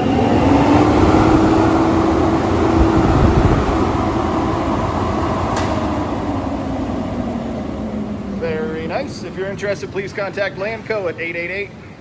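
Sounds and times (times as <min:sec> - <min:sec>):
blower air rush and hum: 0:00.0 - 0:12.0.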